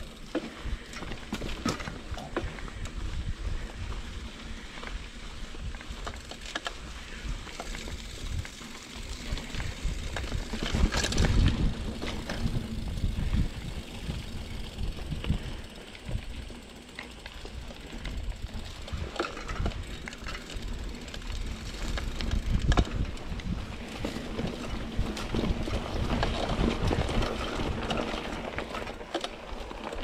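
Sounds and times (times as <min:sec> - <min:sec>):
bike rattling over bumps: 0:00.0 - 0:30.0
bike tyres rolling over dirt: 0:00.0 - 0:30.0.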